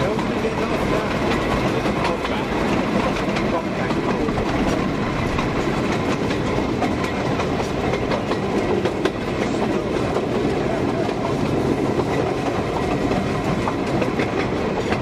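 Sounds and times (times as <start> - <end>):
steam train rumble: 0.0 - 15.0
wheels clattering on track: 0.0 - 15.0.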